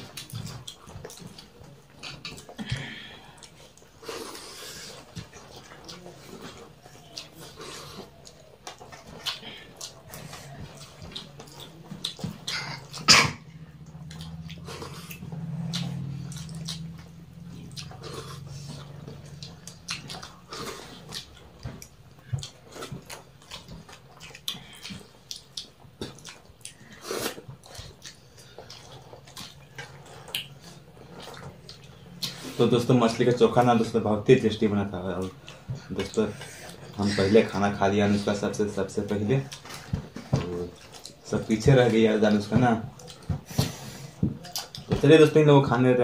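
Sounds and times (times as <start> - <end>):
chewing and lip smacks: 0.0 - 45.5.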